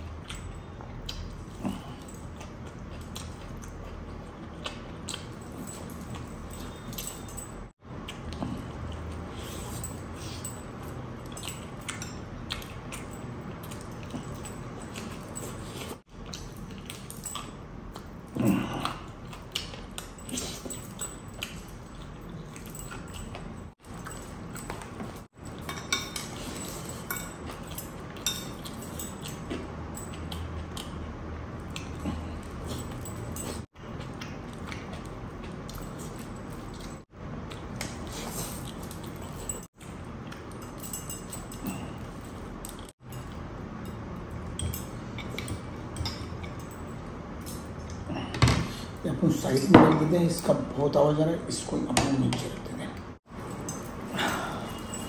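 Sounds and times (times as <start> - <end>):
chewing and lip-smacking: 0.0 - 7.2, 7.9 - 48.1.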